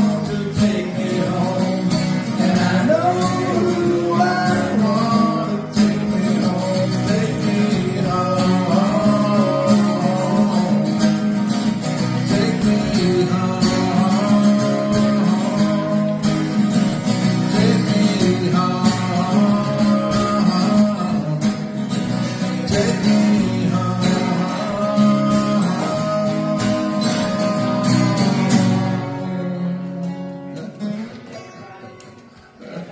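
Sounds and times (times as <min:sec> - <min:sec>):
strummed guitar music: 0:00.0 - 0:32.9.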